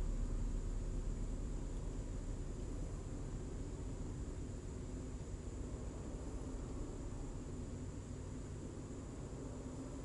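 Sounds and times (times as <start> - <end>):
low hum with faint hiss: 0.0 - 10.0.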